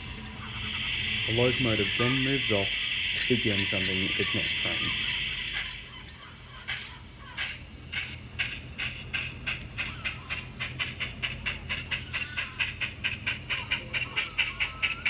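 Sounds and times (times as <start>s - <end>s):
birds chirping: 0.0s - 15.0s
steam locomotive chuffing: 0.0s - 15.0s.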